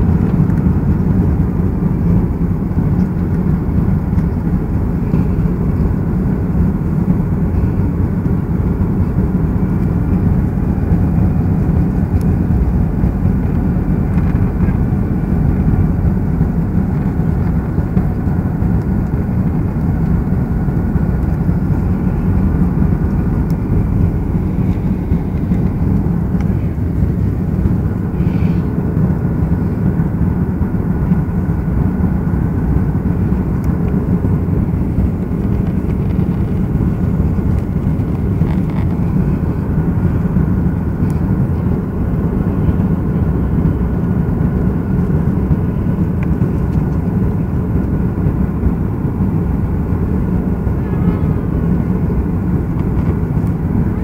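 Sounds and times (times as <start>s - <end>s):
airliner engines and airflow rumble: 0.0s - 54.0s
faint steady whine: 0.0s - 54.0s.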